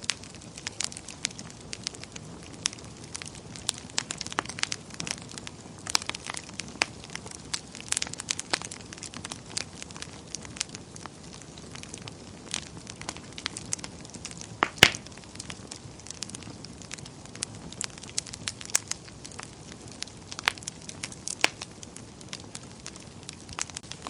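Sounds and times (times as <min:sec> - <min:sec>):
burning logs crackling: 0:00.0 - 0:24.0.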